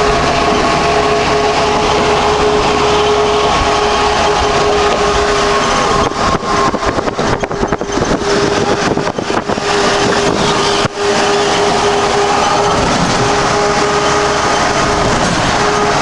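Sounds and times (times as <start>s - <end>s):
humming tone: 0.0s - 16.0s
road noise: 0.0s - 16.0s
truck engine drone: 0.0s - 16.0s.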